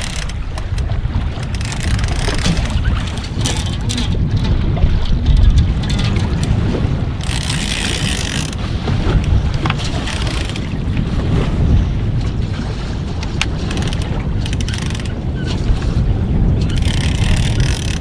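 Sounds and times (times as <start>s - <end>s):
water against boat: 0.0s - 18.0s
wind buffeting microphone: 0.0s - 18.0s.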